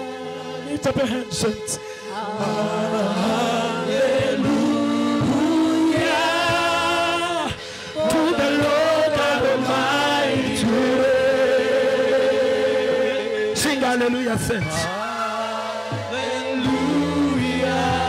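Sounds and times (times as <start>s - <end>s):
church worship singing: 0.0s - 18.0s
musical accompaniment: 0.0s - 18.0s.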